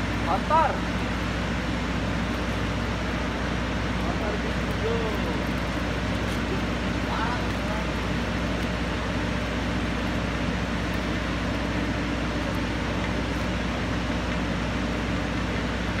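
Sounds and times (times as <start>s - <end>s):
turbine engine mechanical hum: 0.0s - 16.0s.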